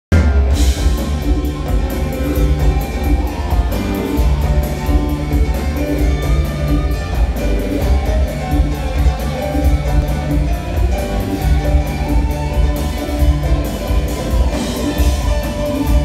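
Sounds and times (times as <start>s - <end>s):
live rock band playing: 0.1s - 16.0s.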